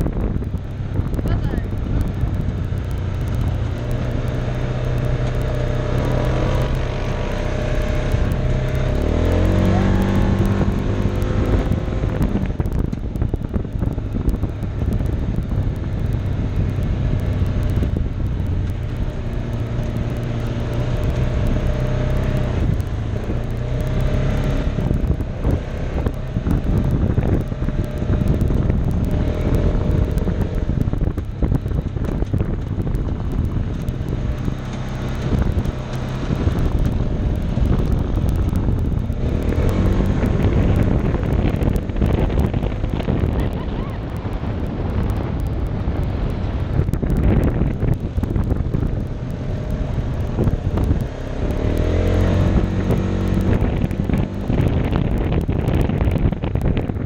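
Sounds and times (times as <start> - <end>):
off-road vehicle engine running: 0.0 - 57.0
rumble and wind noise: 0.0 - 57.0.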